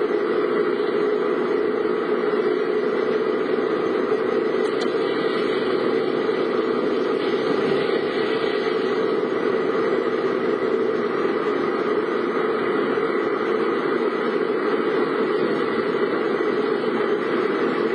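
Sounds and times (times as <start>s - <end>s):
car cabin running hum: 0.0s - 17.9s.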